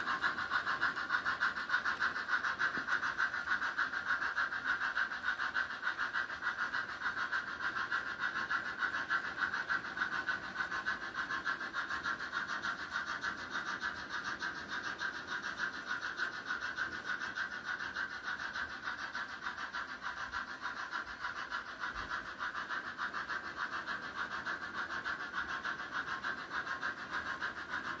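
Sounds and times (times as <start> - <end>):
model train wheels rolling: 0.0 - 28.0.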